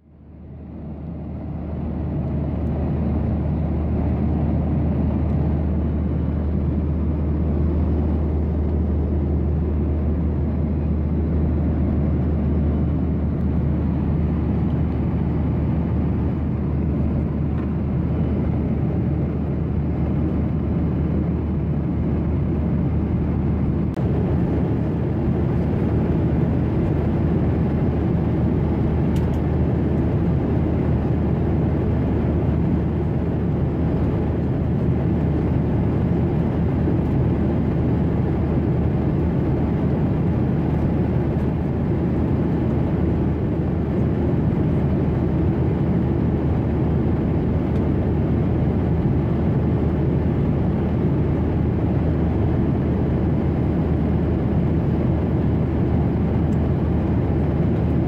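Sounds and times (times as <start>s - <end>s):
jet engine cabin roar: 0.0s - 58.0s.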